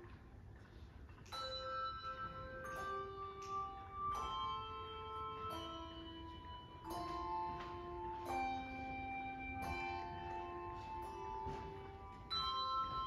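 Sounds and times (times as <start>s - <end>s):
handbell choir ringing chords: 1.2s - 13.0s.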